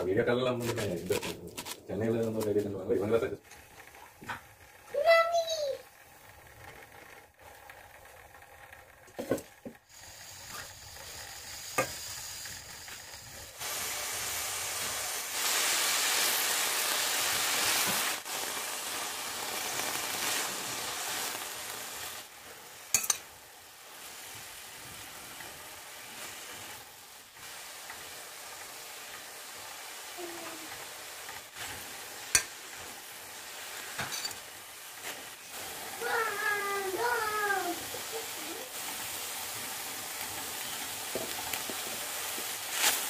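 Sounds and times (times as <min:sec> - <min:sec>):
kale sizzling in oil: 0:00.0 - 0:08.4, 0:09.1 - 0:43.0.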